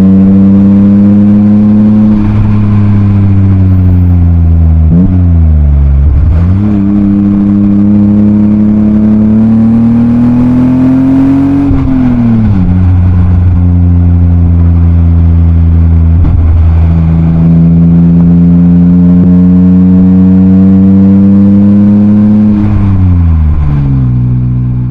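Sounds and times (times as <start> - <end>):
car engine revving through gears: 0.0 - 24.9.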